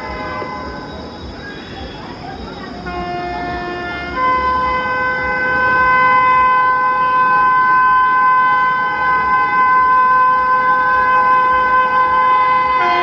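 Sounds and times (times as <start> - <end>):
locomotive air horn blast: 0.0 - 0.9, 2.8 - 13.0.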